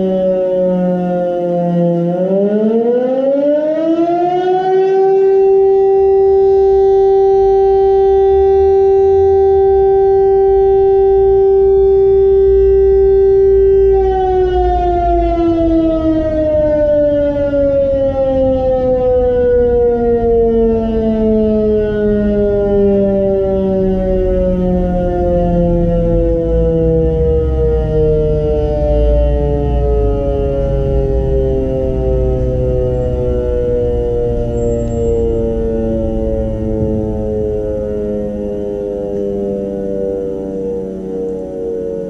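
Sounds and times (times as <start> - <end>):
fire alarm siren: 0.0 - 42.0.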